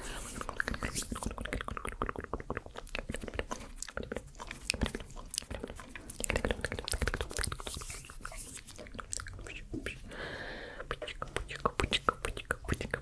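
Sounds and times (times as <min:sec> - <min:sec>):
wet mouth clicks and smacks: 0:00.2 - 0:10.1, 0:10.8 - 0:13.0.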